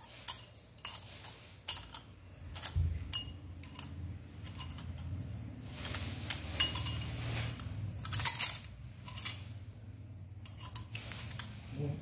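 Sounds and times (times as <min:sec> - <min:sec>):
steel parts clinking and knocking: 0:00.0 - 0:12.0.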